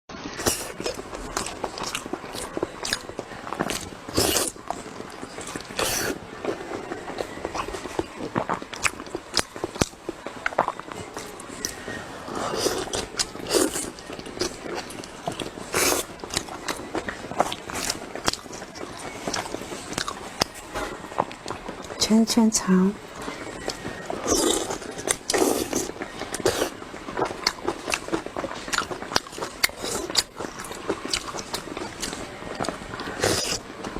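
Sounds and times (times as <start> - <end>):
bites and chewing: 0.4 - 22.0, 23.0 - 33.9.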